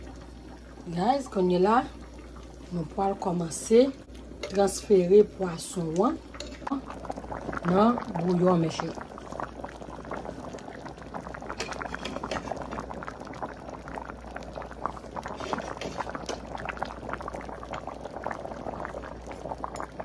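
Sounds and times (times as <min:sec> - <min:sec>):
low steady hum: 0:00.0 - 0:20.0
stew bubbling at a boil: 0:00.0 - 0:20.0.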